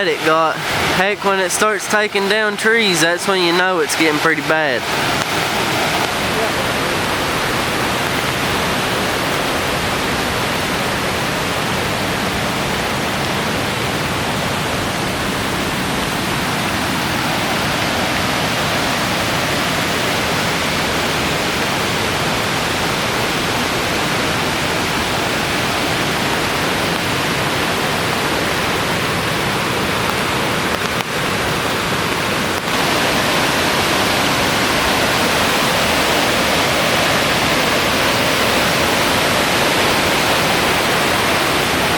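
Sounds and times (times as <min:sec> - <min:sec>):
fast water rushing: 0:00.0 - 0:41.9.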